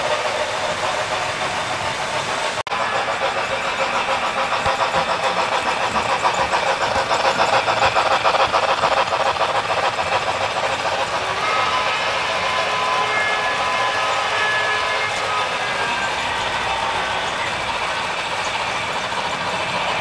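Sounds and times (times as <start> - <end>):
model steam locomotive chuffs: 0.0 - 20.0.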